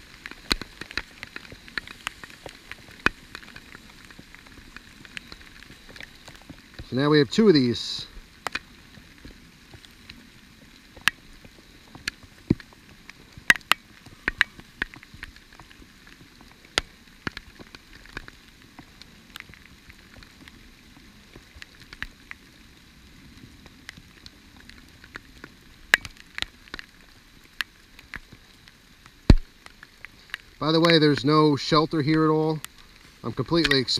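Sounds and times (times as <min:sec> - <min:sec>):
pouring rain hiss: 0:00.0 - 0:33.9
raindrops tapping close by: 0:00.0 - 0:33.9.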